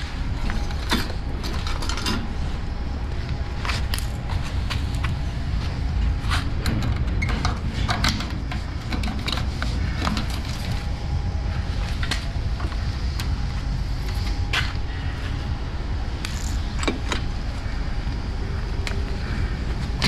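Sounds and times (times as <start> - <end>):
diesel and road rumble: 0.0 - 20.0.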